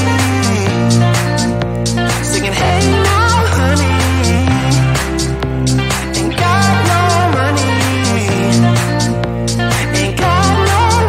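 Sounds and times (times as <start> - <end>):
background pop music: 0.0 - 11.0.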